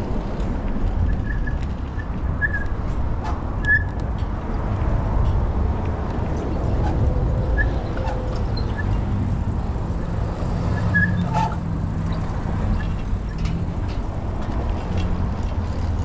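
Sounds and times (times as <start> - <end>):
urban traffic rumble: 0.0 - 16.0.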